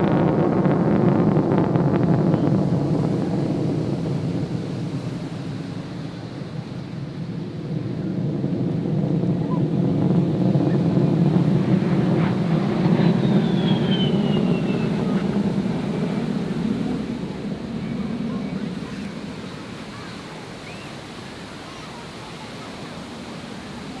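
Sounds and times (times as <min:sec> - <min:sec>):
jet aircraft rumbling past: 0:00.0 - 0:21.8.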